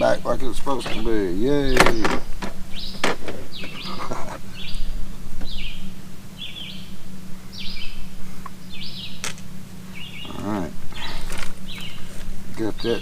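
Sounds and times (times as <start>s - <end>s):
bird chirping: 0.0s - 13.0s
steady low hum: 0.0s - 13.0s.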